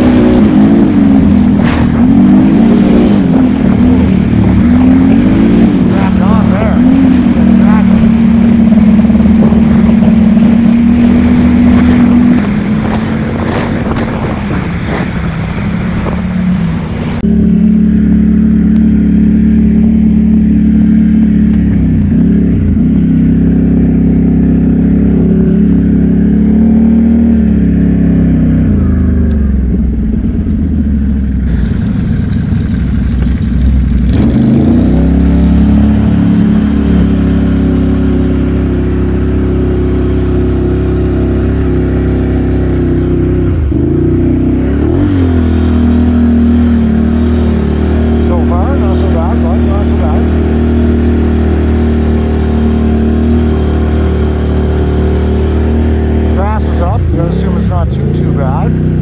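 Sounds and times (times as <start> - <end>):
atv engine revving: 0.0 - 59.0
rushing noise: 0.0 - 59.0.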